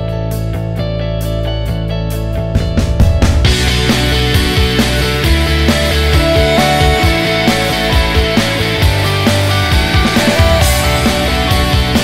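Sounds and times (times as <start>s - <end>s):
background rock music: 0.0s - 12.0s.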